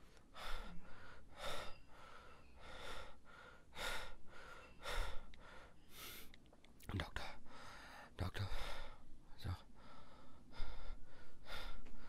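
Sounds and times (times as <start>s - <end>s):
man breathing hard: 0.0s - 6.4s, 7.3s - 12.0s.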